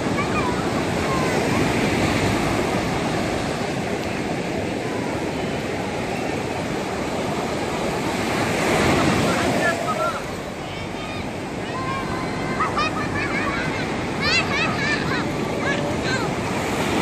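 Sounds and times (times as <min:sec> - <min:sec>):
sea surf washing onto beach: 0:00.0 - 0:17.0.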